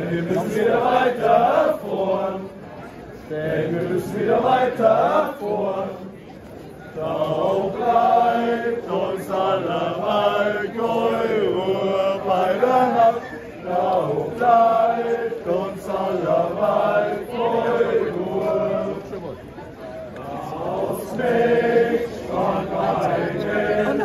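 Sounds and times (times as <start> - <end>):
group singing in unison: 0.0 - 2.6, 3.3 - 6.1, 7.0 - 19.2, 20.2 - 24.0.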